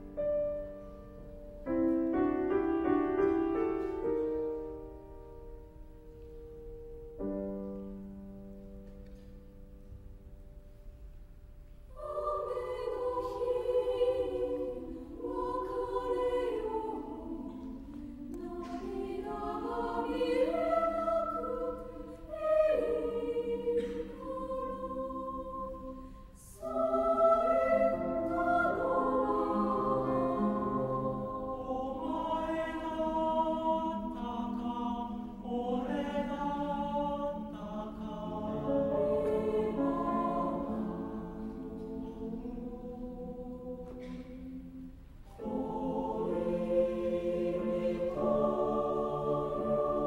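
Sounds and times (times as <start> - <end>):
choir singing in harmony: 0.0 - 9.2, 11.7 - 50.0.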